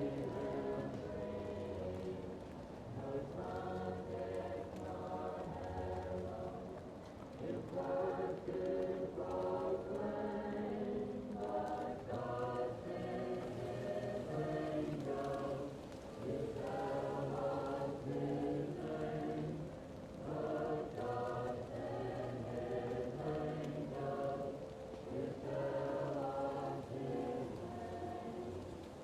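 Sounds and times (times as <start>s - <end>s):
faint fireplace crackle: 0.0s - 29.0s
muffled choir singing: 0.0s - 29.0s.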